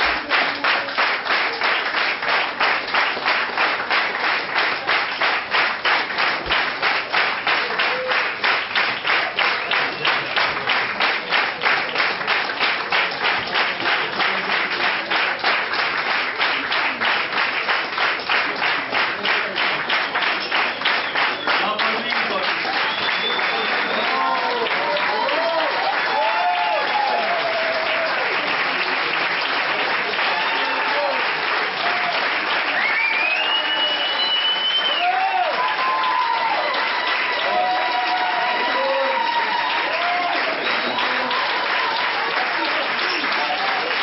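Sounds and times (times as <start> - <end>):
audience clapping in unison: 0.0 - 44.0.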